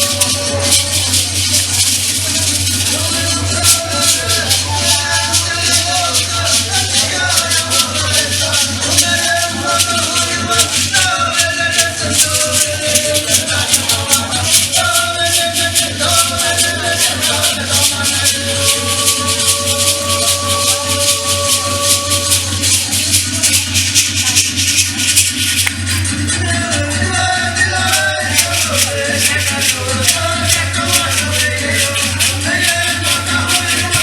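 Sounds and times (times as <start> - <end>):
rattling percussion rhythm: 0.0 - 34.0.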